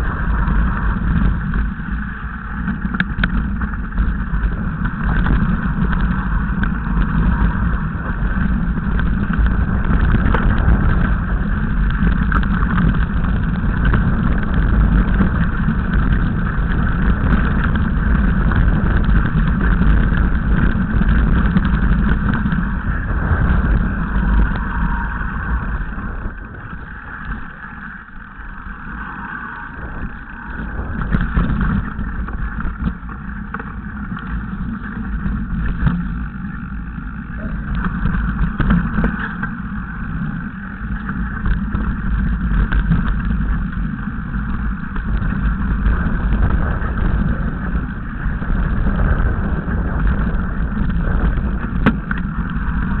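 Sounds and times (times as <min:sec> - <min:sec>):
bike rattling on loose stones: 0:00.0 - 0:53.0
wind buffeting microphone: 0:00.0 - 0:53.0.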